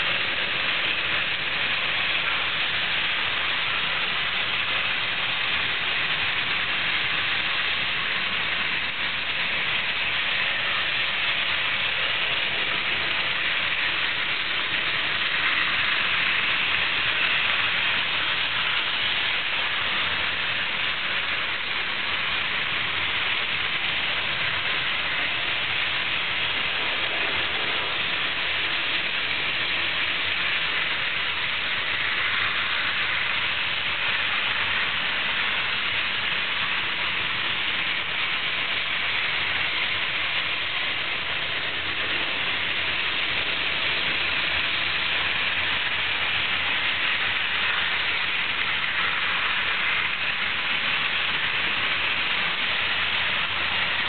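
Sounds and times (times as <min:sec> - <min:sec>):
model train whirring on track: 0:00.0 - 0:54.0.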